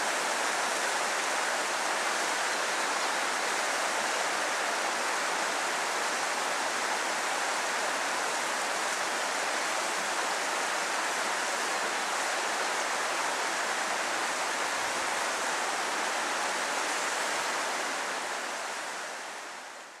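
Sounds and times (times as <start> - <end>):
stream rushing over stones: 0.0 - 20.0.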